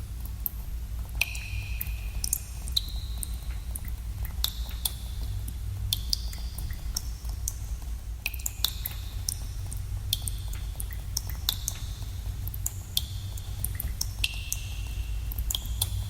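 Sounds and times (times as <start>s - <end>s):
steady low rumble: 0.0s - 16.0s
water drops plinking in cave: 1.2s - 16.0s.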